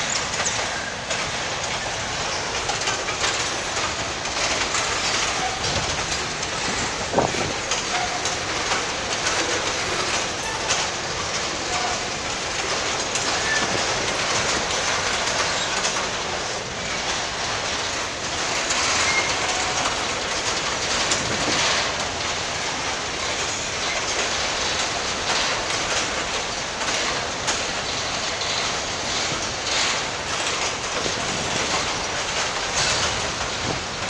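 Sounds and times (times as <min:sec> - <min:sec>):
train wheels rumbling on rails: 0:00.0 - 0:34.0
wheels clacking over rail joints: 0:00.0 - 0:34.0.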